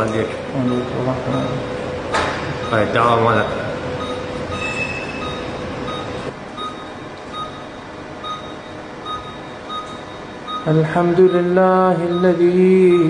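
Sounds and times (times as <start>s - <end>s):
patient monitor beeping: 0.0s - 13.0s
steady hum: 0.0s - 13.0s.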